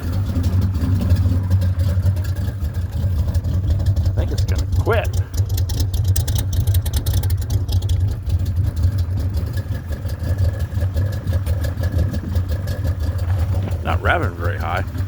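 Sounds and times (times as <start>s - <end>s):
engine idling unevenly: 0.0s - 15.0s.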